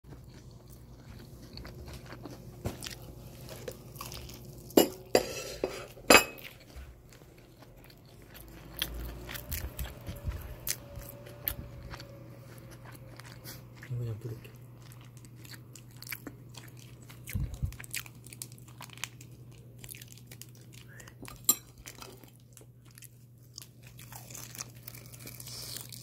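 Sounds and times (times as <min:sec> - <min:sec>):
crunching fried chicken: 0:00.1 - 0:04.8, 0:06.4 - 0:26.0
faint steady hum: 0:00.1 - 0:26.0.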